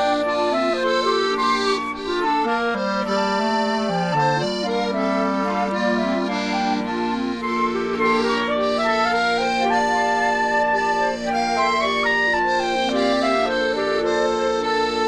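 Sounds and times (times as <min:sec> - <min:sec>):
instrumental music with held chords: 0:00.0 - 0:15.0.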